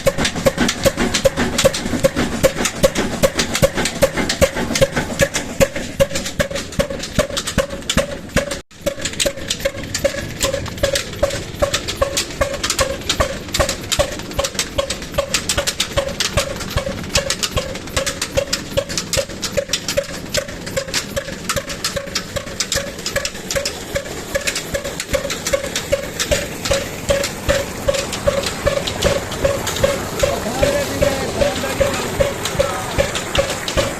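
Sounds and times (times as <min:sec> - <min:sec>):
diesel engine knocking: 0:00.0 - 0:33.9.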